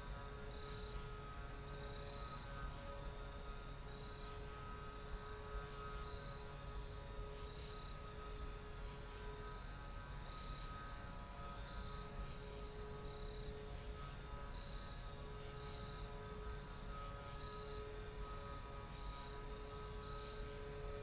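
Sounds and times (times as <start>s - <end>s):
faint hum of held tones: 0.0s - 21.0s.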